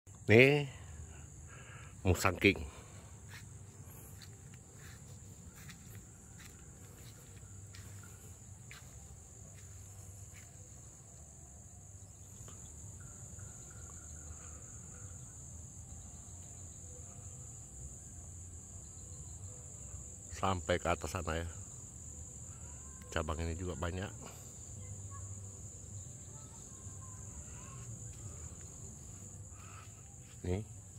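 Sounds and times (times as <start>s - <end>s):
high-pitched insect chorus: 0.1s - 30.9s.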